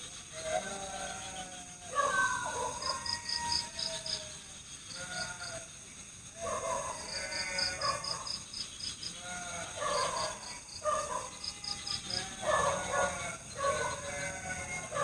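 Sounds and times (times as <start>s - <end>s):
crickets chirping: 0.0s - 15.0s
frogs croaking: 0.0s - 15.0s.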